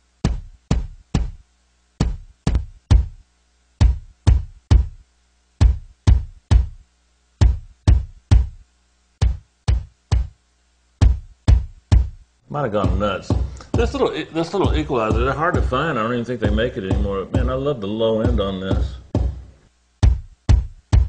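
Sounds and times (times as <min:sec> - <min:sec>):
kick drum hits: 0:00.2 - 0:03.2, 0:03.8 - 0:05.0, 0:05.6 - 0:06.8, 0:07.4 - 0:10.4, 0:11.0 - 0:17.7, 0:18.3 - 0:21.0.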